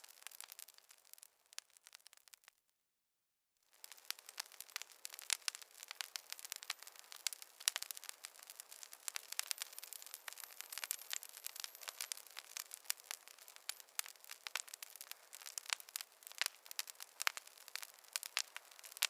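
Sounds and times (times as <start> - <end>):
wood fire crackling: 0.0 - 2.6, 3.7 - 19.0.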